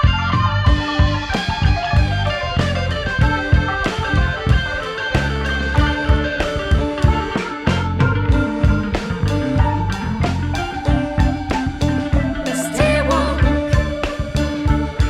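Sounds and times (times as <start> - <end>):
bass guitar: 0.0 - 15.0
electric guitar: 0.0 - 15.0.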